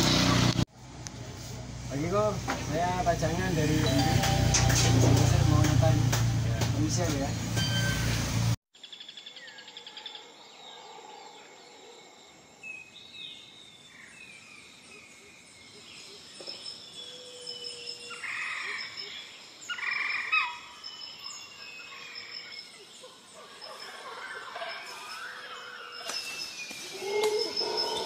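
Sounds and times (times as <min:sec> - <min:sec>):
birds chirping and twittering: 0:01.9 - 0:28.0.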